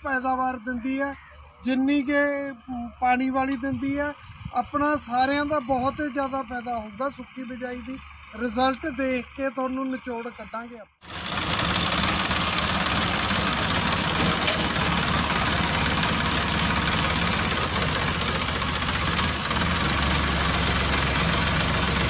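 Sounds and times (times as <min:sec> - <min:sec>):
diesel tractor engine idling: 0:00.0 - 0:22.0.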